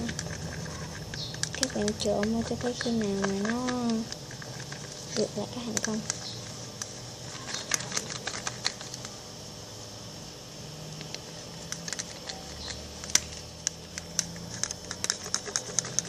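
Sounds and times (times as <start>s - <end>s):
utensil clicking against container: 0.0s - 9.1s, 11.0s - 16.0s.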